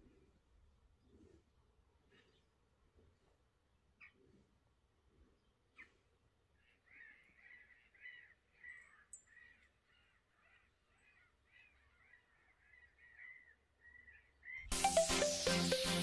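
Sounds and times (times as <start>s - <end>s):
faint bird calls: 1.0s - 14.7s.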